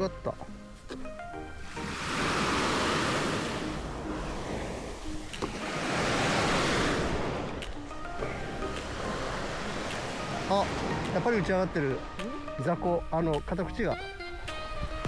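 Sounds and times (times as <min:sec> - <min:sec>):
waves breaking on beach: 0:00.0 - 0:14.3.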